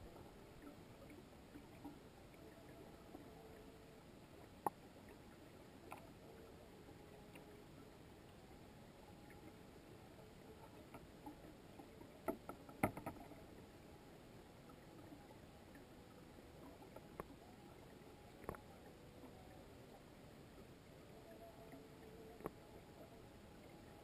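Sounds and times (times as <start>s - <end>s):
muffled underwater ambience: 0.0s - 24.0s.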